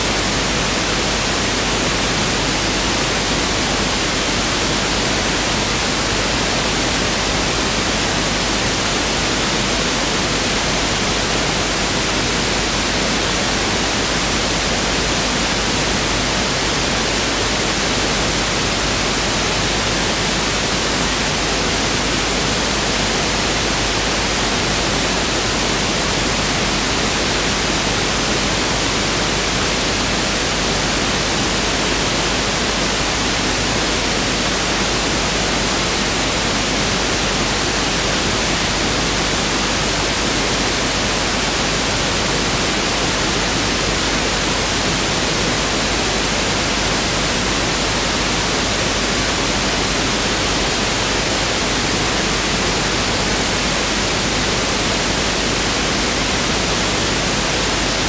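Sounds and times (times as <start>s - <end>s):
steady pink noise hiss: 0.0s - 58.0s.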